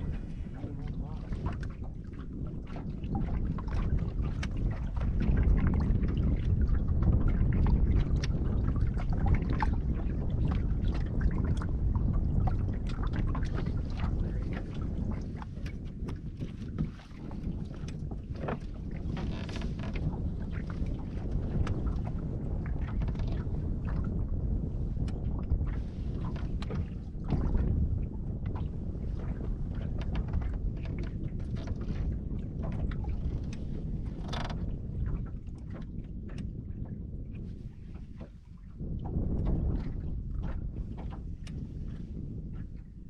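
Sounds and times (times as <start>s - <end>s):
boat and water rumble: 0.0s - 43.0s
wind buffeting microphone: 0.0s - 43.0s.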